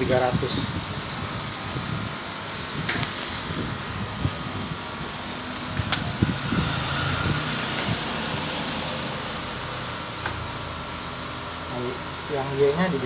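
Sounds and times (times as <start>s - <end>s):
mechanical running noise: 0.0s - 13.0s.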